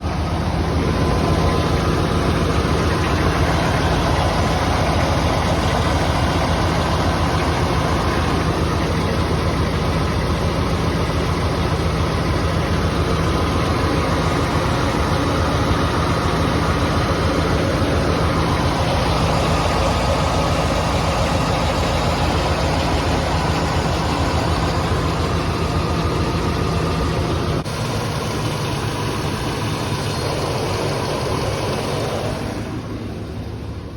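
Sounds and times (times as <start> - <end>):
rhythmic engine knock: 0.0 - 32.7
engine idling: 0.0 - 33.9.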